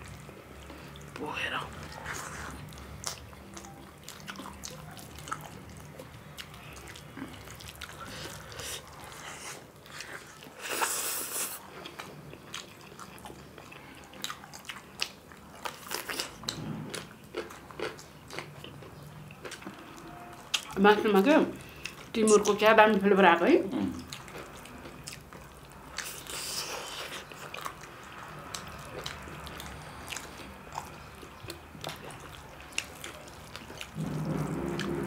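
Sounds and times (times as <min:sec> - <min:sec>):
people chewing food: 0:00.0 - 0:23.2, 0:23.8 - 0:35.0.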